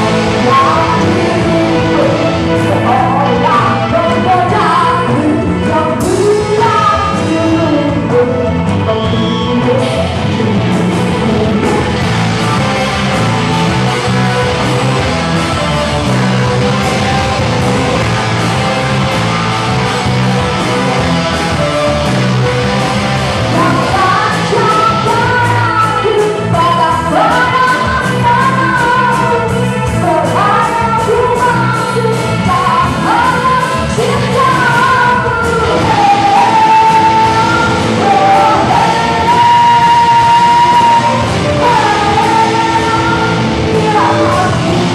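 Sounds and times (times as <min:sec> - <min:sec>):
lead singer singing: 0:00.0 - 0:44.9
rock band playing live: 0:00.0 - 0:44.9.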